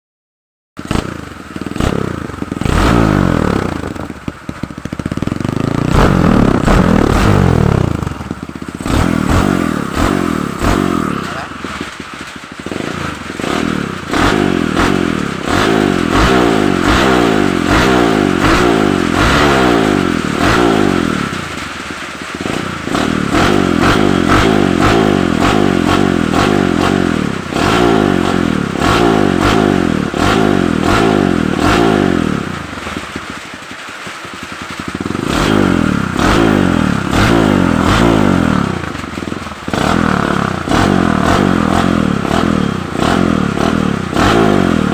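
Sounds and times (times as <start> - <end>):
motorcycle engine revving: 0.8 - 44.9.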